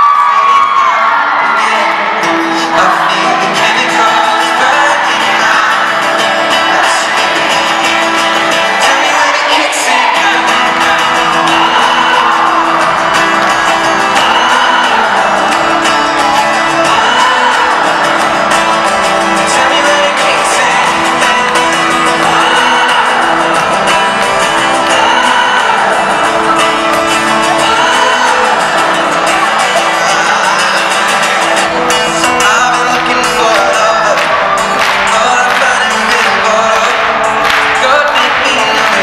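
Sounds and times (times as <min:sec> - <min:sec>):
acoustic guitar: 0:00.0 - 0:39.0
crowd cheering and clapping: 0:00.0 - 0:39.0
male singer singing: 0:00.0 - 0:39.0.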